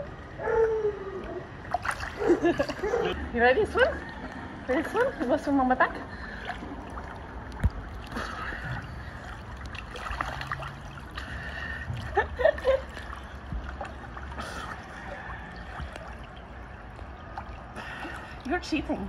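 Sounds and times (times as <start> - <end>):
pool water splashing: 0.0 - 19.0.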